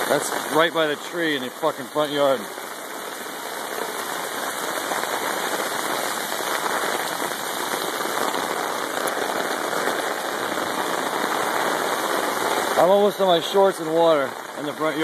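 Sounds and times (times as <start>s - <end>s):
heavy rain on water: 0.0s - 15.0s.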